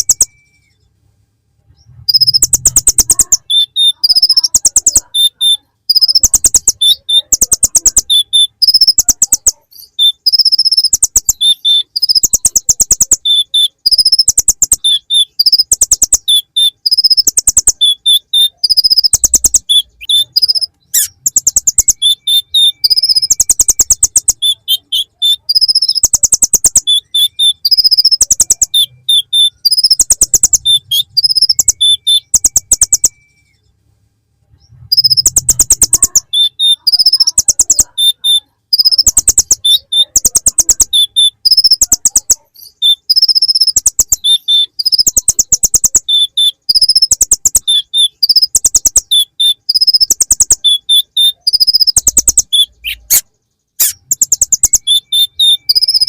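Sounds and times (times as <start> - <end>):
sunbird singing buzzy trills: 0.0 - 0.9, 1.7 - 33.7, 34.6 - 56.0.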